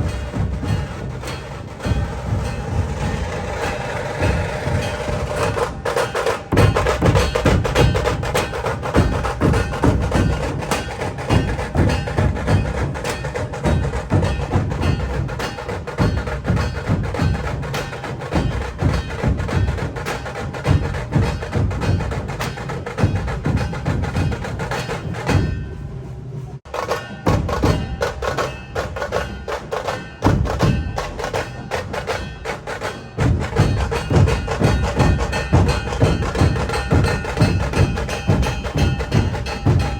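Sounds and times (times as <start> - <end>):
music with heavy percussion beat: 0.0 - 39.9.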